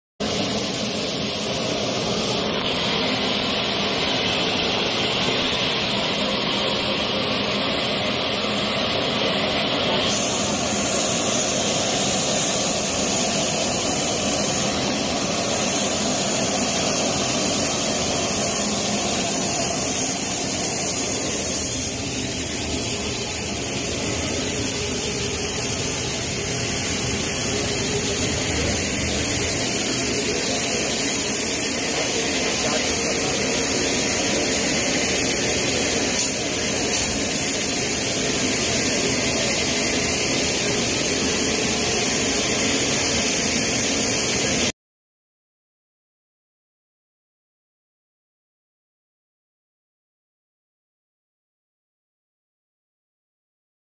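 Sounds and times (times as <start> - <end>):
jet engine rush with high whine: 0.2 - 44.8.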